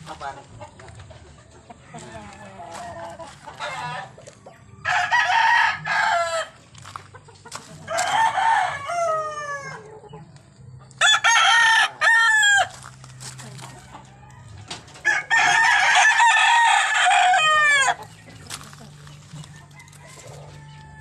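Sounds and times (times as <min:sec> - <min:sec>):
roosters crowing: 0:01.8 - 0:10.0, 0:11.0 - 0:21.0.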